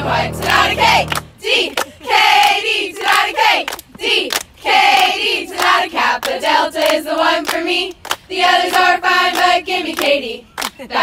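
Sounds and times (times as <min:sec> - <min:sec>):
women chanting in unison: 0:00.0 - 0:11.0.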